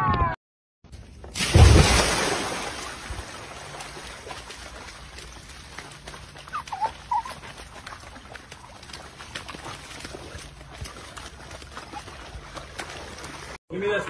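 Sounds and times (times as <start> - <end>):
dog pawing in stream: 1.3 - 13.6
water rushing and splashing: 1.4 - 13.6.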